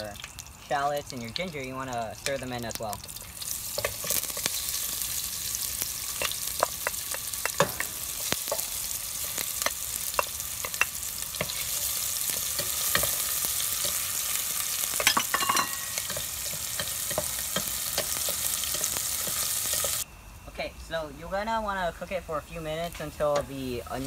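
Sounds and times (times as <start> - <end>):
food sizzling in hot oil: 0.0 - 20.4, 21.2 - 24.0.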